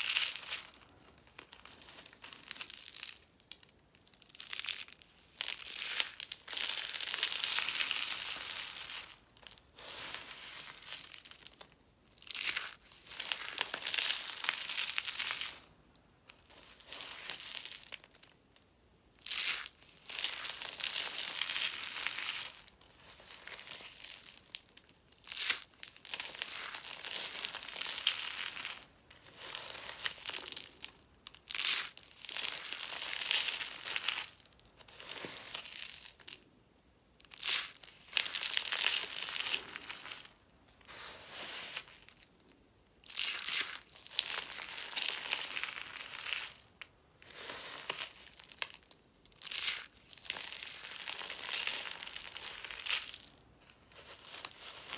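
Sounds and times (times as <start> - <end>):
dry soap crunching and crackling: 0.0 - 36.5, 37.2 - 54.9.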